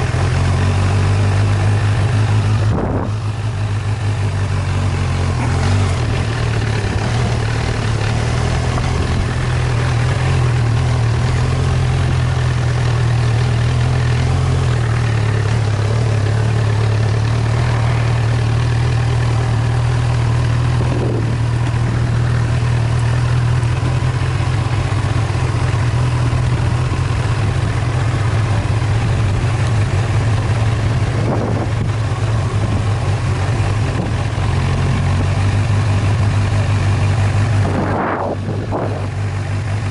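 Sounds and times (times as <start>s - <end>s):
tyres rumbling on dirt track: 0.0s - 39.9s
vehicle engine droning: 0.0s - 39.9s.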